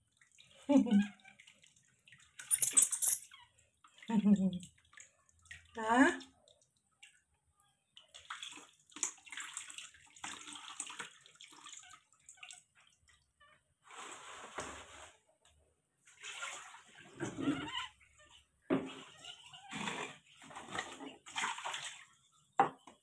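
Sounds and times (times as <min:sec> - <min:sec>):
water splashing and trickling: 0:00.0 - 0:15.2, 0:16.0 - 0:23.0.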